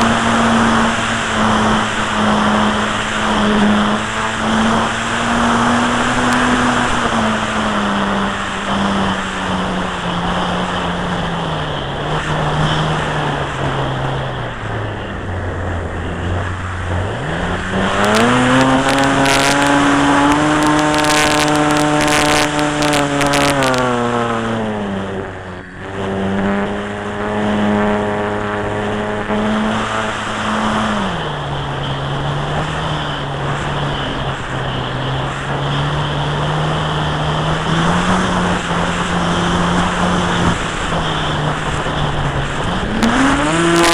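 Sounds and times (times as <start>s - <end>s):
model airplane motor whine: 0.0s - 43.9s
wind rushing over microphone: 0.0s - 43.9s.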